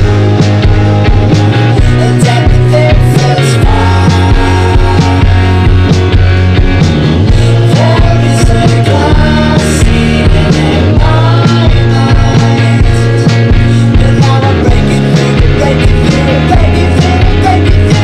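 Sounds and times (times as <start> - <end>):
lo-fi rock song: 0.0 - 18.0.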